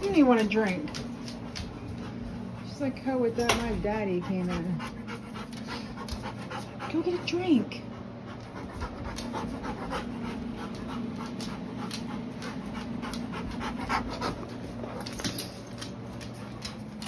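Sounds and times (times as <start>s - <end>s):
dog panting: 0.0s - 15.2s.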